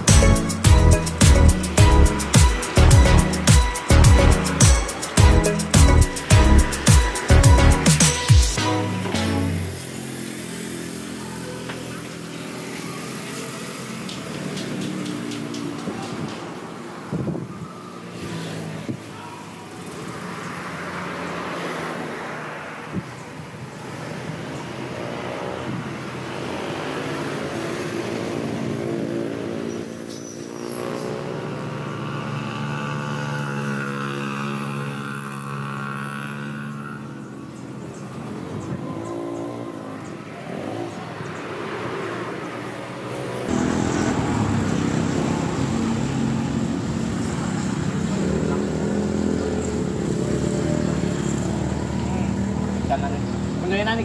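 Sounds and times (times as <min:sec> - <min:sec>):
engine revving: 0:00.0 - 0:16.8, 0:24.2 - 0:54.0
vehicle engines running: 0:00.0 - 0:54.0.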